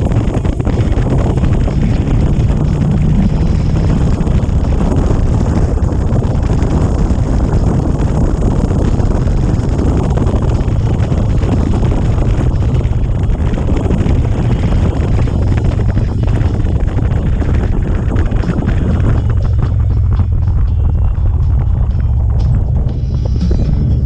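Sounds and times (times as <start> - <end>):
motorcycle engine hum: 0.0 - 24.0
wind rushing over microphone: 0.0 - 24.0.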